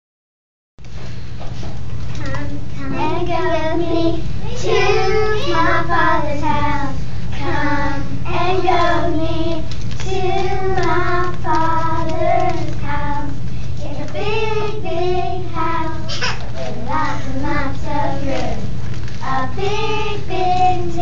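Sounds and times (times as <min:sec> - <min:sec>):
girls singing in unison: 0:02.8 - 0:21.0.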